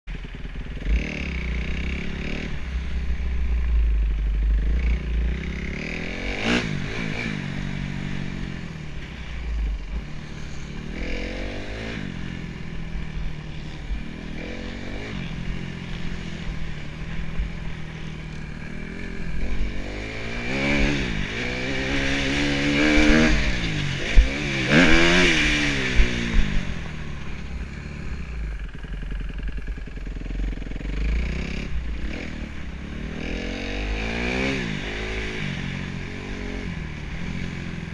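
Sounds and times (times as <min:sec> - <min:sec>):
motocross bike engine revving: 0:00.2 - 0:37.9.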